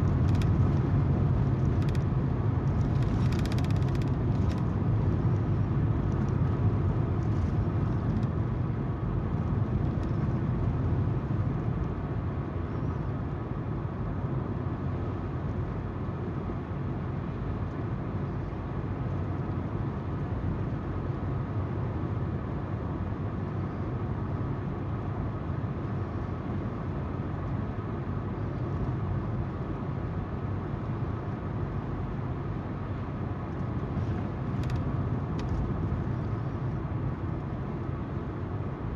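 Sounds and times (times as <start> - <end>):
tyre noise and engine hum: 0.0 - 38.9.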